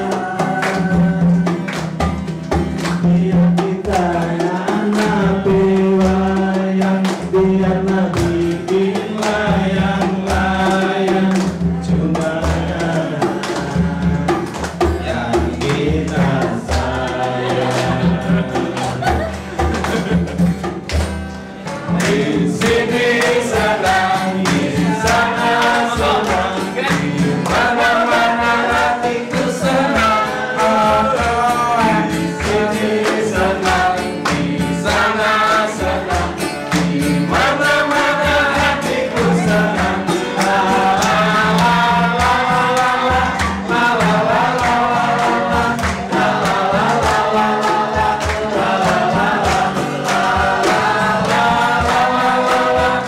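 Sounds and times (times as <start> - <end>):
man singing into microphone: 0.0 - 1.7, 3.0 - 19.2, 21.9 - 53.0
group singing along: 0.0 - 20.9, 21.5 - 53.0
acoustic guitar strumming: 0.0 - 53.0.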